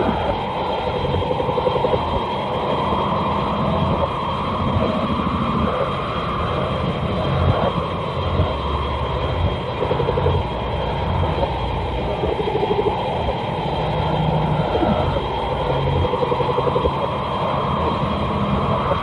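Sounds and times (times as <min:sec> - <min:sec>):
faint high whine: 0:00.0 - 0:19.0
pulsing low tones: 0:00.0 - 0:19.0.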